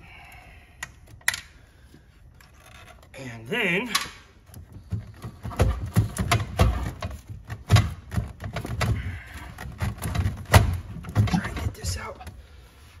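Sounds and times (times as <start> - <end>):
hands clicking and knocking parts: 0.8 - 3.1, 3.9 - 12.4.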